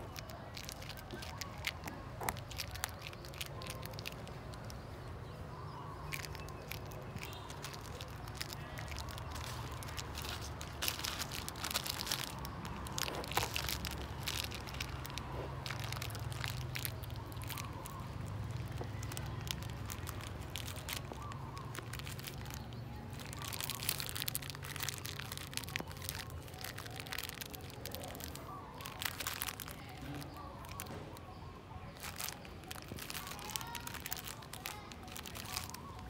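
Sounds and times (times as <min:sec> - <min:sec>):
plastic wrapper crinkling: 0:00.0 - 0:36.0.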